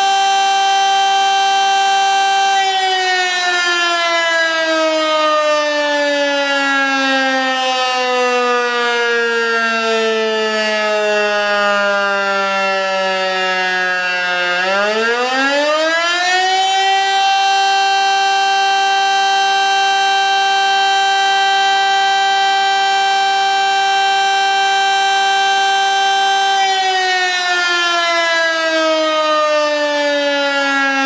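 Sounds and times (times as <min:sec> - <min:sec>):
electric motor siren wailing: 0:00.0 - 0:31.0.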